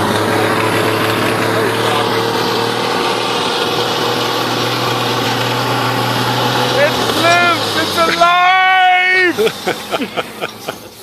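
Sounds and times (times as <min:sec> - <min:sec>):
old truck engine running: 0:00.0 - 0:11.0.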